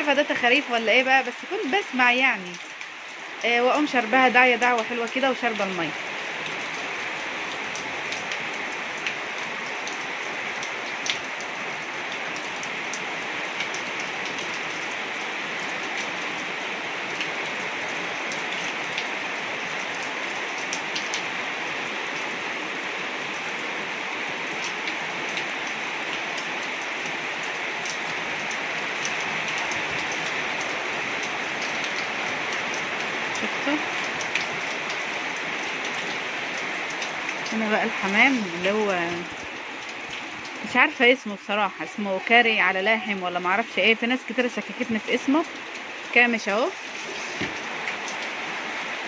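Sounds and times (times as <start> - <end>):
heavy rain on a roof: 0.0 - 49.0
raindrop impacts: 0.0 - 49.0.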